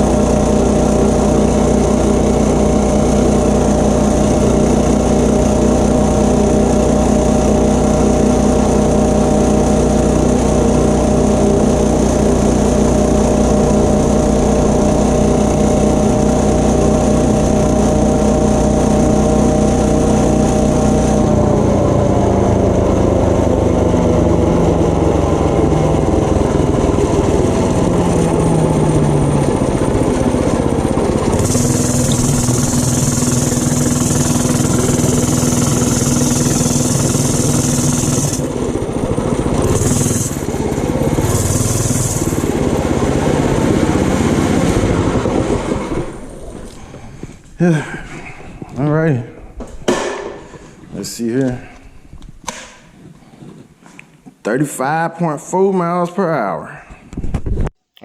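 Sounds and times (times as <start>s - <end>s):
mini bike engine running: 0.0s - 50.3s.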